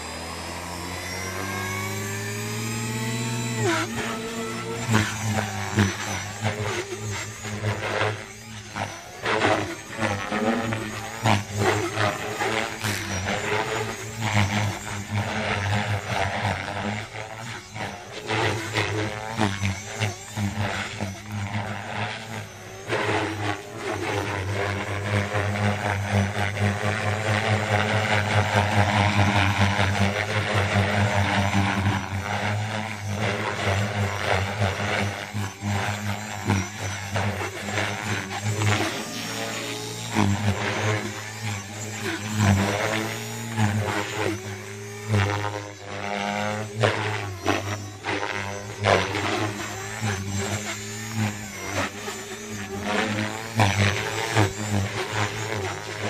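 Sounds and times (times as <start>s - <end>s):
motor and gear whine: 0.0s - 56.0s
rc helicopter rotor hum: 0.0s - 56.0s.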